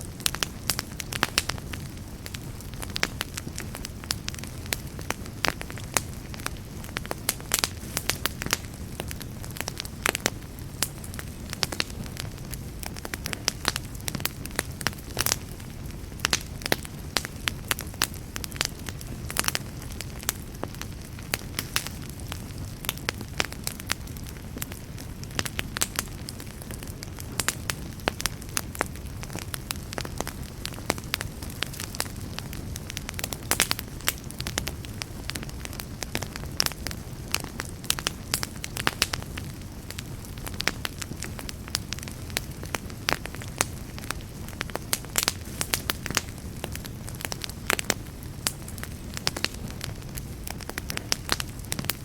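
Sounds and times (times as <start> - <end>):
low rumble of fire: 0.0 - 52.0
wood fire crackling and popping: 0.0 - 52.0.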